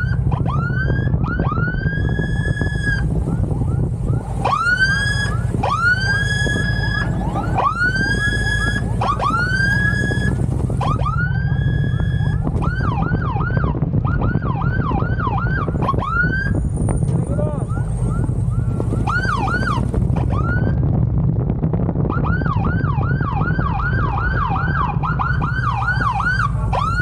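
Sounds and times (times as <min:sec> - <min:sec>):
electronic siren wailing and yelping: 0:00.0 - 0:16.7, 0:17.3 - 0:20.9, 0:22.1 - 0:27.0
low rumble of engine and wind: 0:00.0 - 0:27.0.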